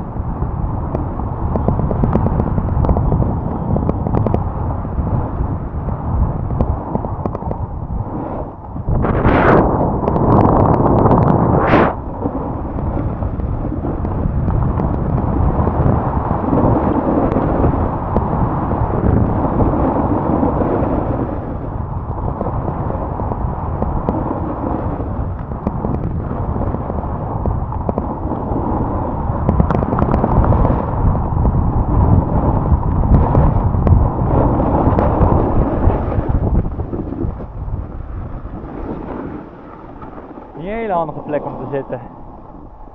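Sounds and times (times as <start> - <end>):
snowboard scraping over snow: 0.0 - 42.9
wind on microphone: 0.0 - 42.9.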